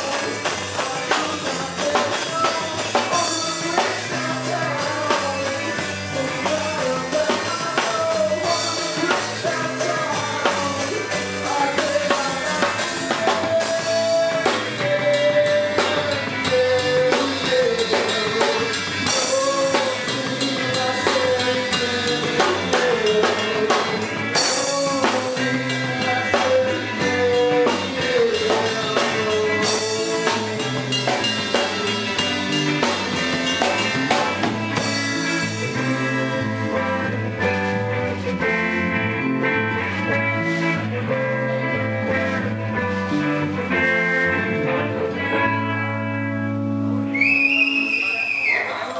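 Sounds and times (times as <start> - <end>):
drum kit beat: 0.0 - 44.7
bending lead guitar line: 0.0 - 48.9
rock band playing: 0.0 - 48.9.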